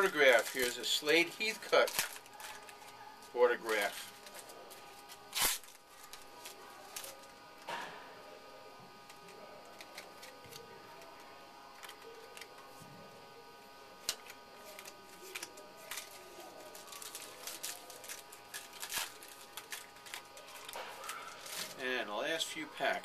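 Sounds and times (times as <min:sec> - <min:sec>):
cards and wrappers rustling: 0:00.0 - 0:07.8, 0:09.0 - 0:12.9, 0:14.0 - 0:23.0.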